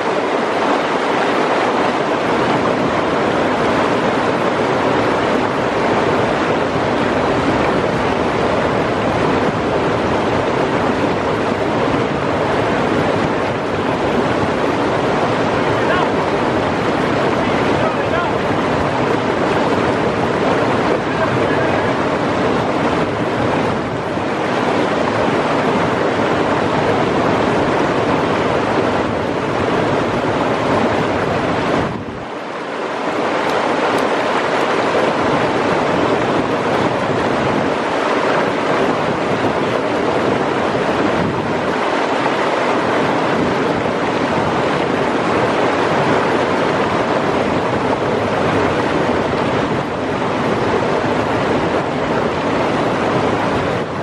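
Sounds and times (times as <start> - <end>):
river rapids rushing: 0.0 - 54.0.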